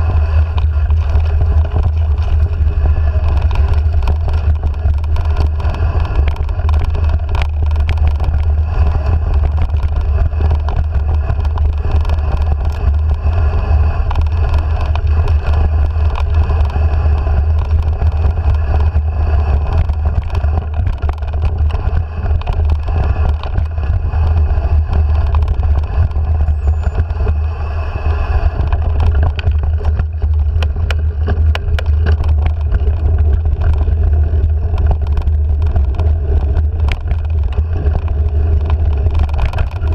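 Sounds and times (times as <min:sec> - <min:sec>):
bike clicks and rattles: 0:00.0 - 0:39.9
wind rumble on microphone: 0:00.0 - 0:39.9.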